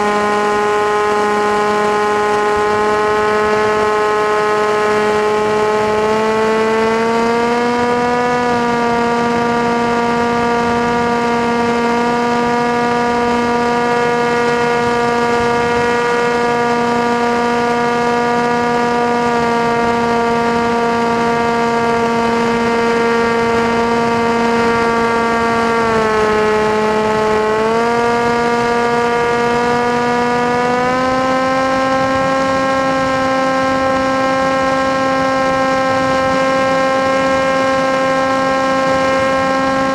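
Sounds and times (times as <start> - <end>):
model aircraft motor whining: 0.0 - 39.9.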